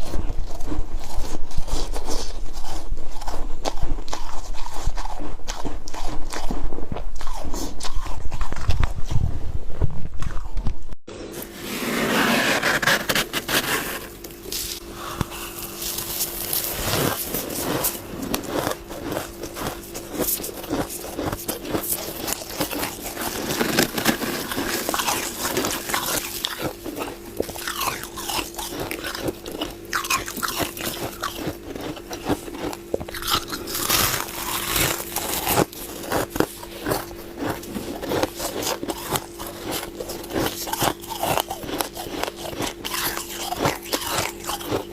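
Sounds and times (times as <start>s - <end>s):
crunching chewing of frost: 0.0s - 9.2s, 12.6s - 44.9s
steady low hum: 0.0s - 44.9s.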